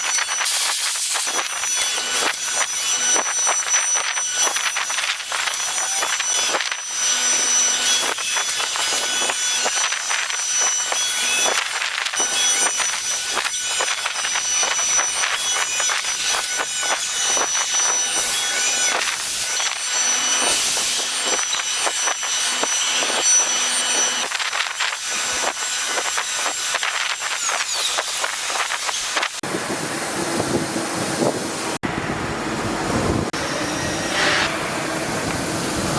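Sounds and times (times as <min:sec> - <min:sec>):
router spindle whining: 0:00.0 - 0:29.4.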